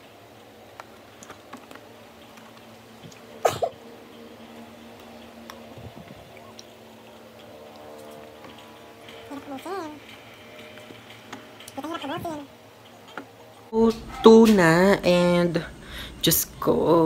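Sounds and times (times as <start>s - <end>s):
electric fan hum: 0.0s - 17.0s.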